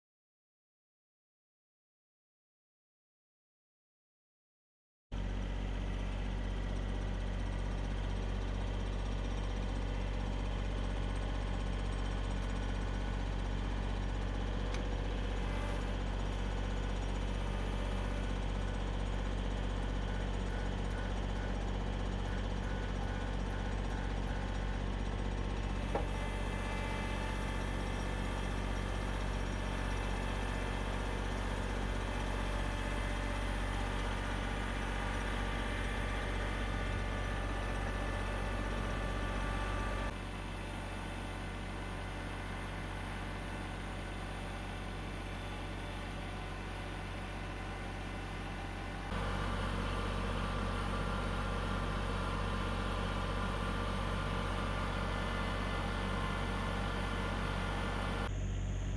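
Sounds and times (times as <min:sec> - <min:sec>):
diesel tractor engine idling: 0:05.2 - 0:58.9.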